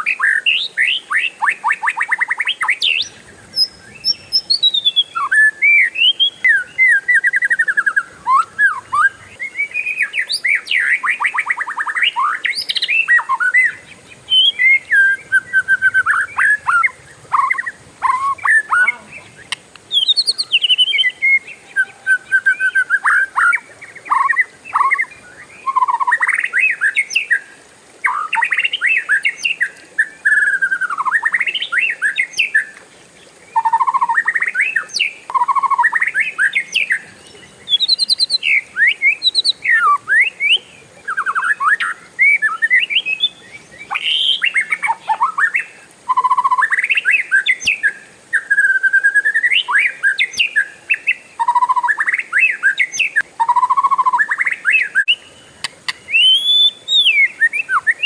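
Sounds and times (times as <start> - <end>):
songbird whistling and trilling: 0.0 - 27.4, 28.0 - 32.8, 33.5 - 58.0.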